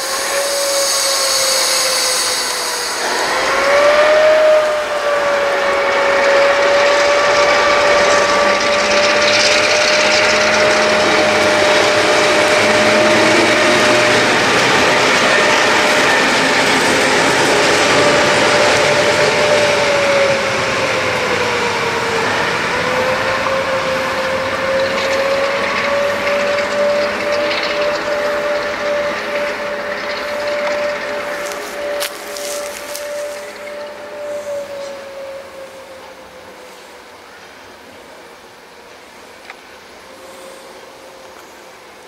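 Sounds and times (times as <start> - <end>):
diesel locomotive engine whine: 0.0 - 42.0
wheels on rails: 0.0 - 42.0.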